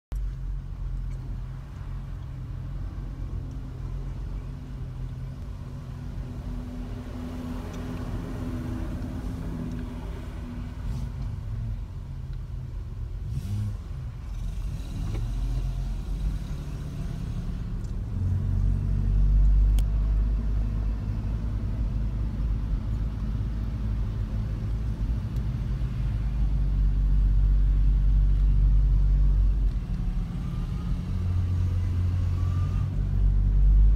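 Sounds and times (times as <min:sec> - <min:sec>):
car engine and road noise: 0:00.1 - 0:33.9.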